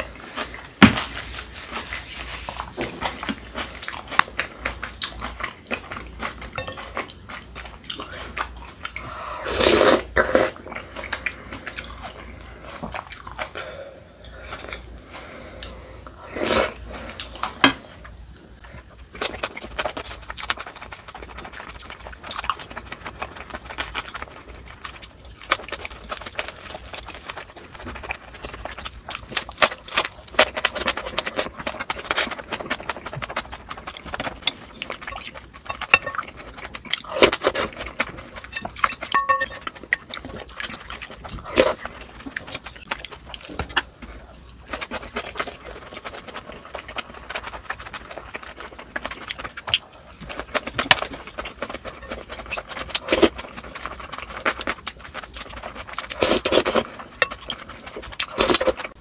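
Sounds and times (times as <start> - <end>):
wet chewing and mouth noises: 0.0 - 59.0.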